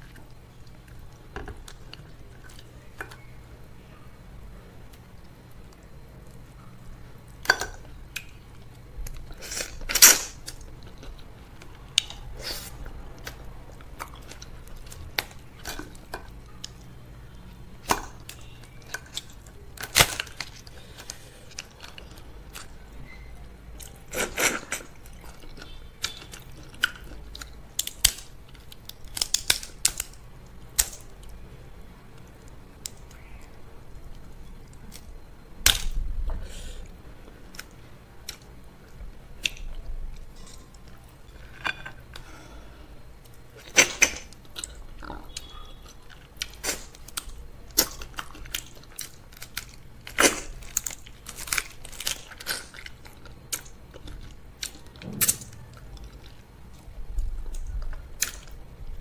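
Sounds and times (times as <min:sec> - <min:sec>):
chewing with sharp cracks: 0:04.8 - 0:31.4, 0:32.2 - 0:58.6.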